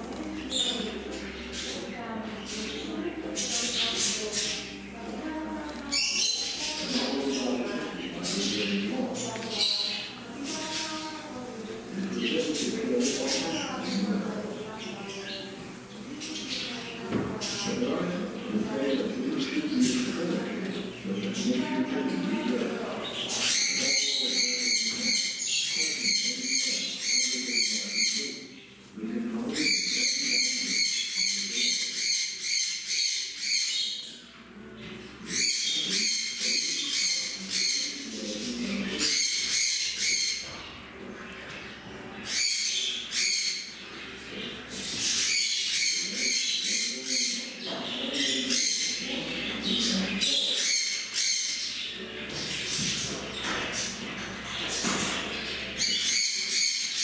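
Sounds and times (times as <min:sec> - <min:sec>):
parrots chattering and squawking: 0:00.0 - 0:05.0, 0:05.7 - 0:28.8, 0:29.5 - 0:57.0.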